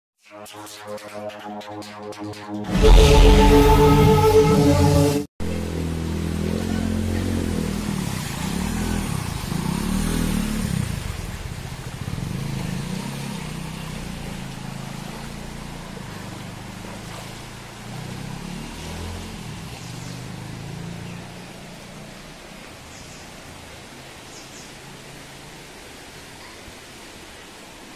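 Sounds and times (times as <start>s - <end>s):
floodwater rushing: 0.5s - 27.9s
engine hum: 2.7s - 26.2s.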